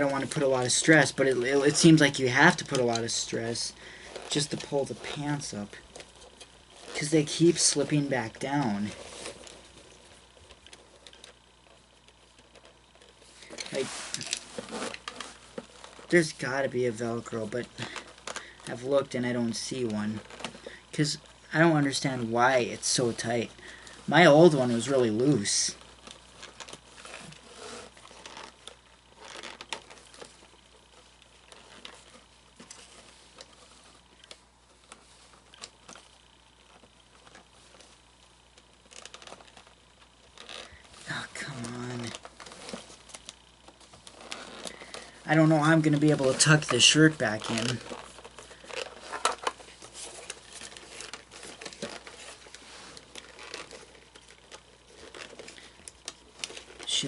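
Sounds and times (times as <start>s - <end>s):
fabric rustling: 0.0s - 18.8s, 19.4s - 57.0s.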